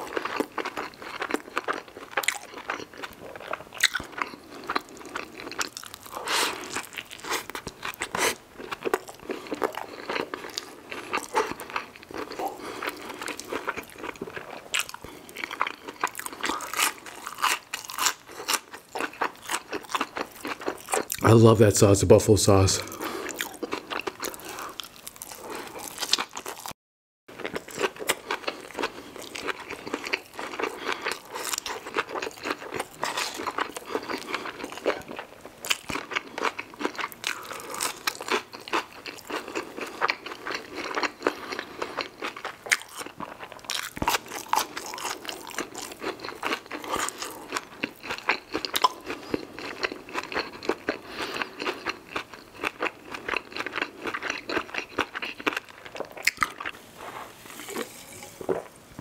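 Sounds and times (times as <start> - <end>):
crunching crispy fried food: 0.0 - 21.3, 22.8 - 58.8.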